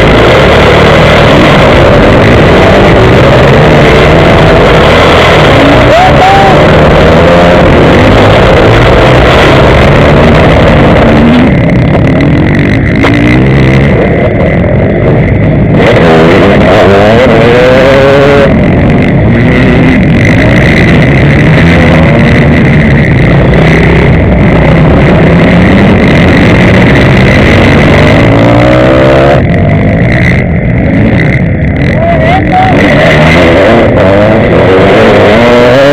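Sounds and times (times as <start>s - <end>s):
loud rushing noise: 0.0s - 35.9s
motocross bike engine revving: 0.0s - 35.9s.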